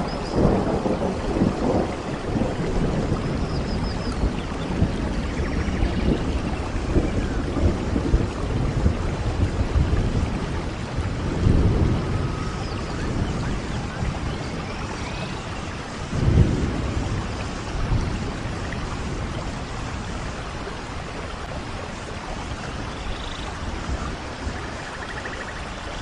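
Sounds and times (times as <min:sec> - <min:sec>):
rain falling: 0:00.0 - 0:26.0
thunder rumbling: 0:00.0 - 0:26.0.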